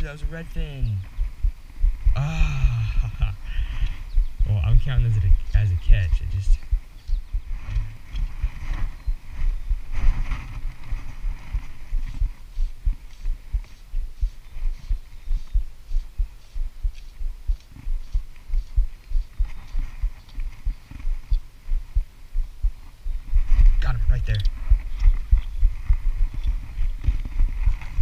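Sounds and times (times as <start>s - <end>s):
low thumps against camera: 0.2s - 3.4s, 4.1s - 28.0s.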